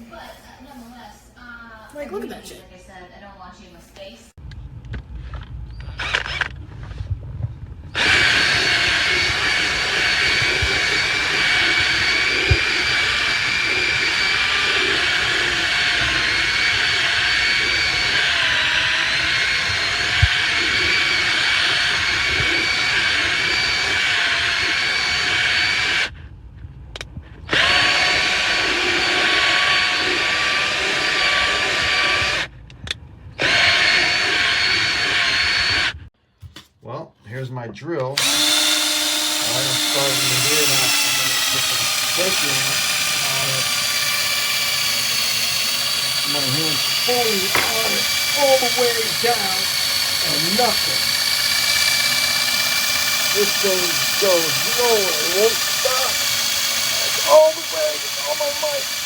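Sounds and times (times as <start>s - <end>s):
power tool motor whining: 5.3s - 7.0s, 8.0s - 26.1s, 27.5s - 32.5s, 33.4s - 36.0s, 38.2s - 59.0s.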